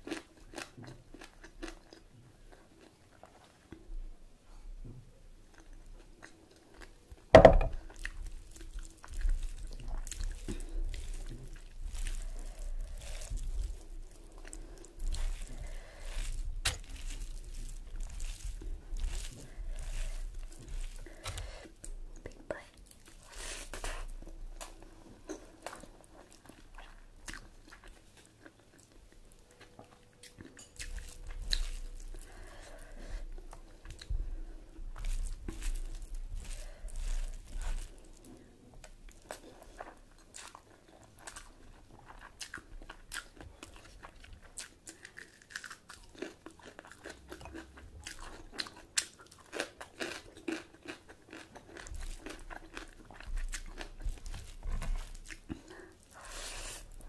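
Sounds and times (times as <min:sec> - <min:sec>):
person chewing and crunching: 0:00.0 - 0:03.8, 0:05.5 - 0:57.0.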